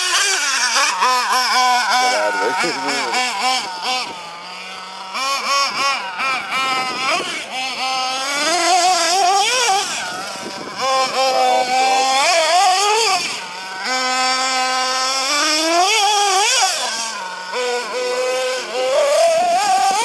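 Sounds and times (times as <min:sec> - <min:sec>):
small engine revving: 0:00.0 - 0:20.0.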